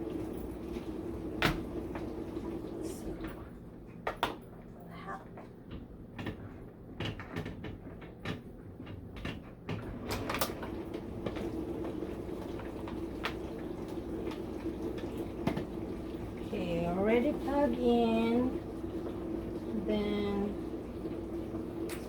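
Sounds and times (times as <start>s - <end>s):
humidifier low hum: 0.0s - 22.0s.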